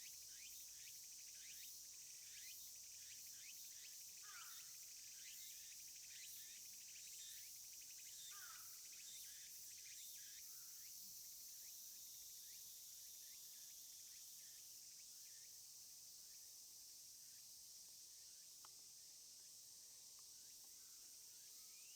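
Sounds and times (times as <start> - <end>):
high insect drone: 0.0 - 21.9.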